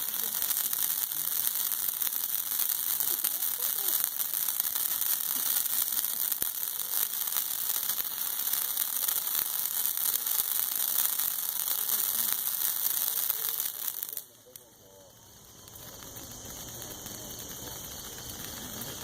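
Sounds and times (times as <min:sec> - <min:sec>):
firework hissing and crackling: 0:00.0 - 0:19.0.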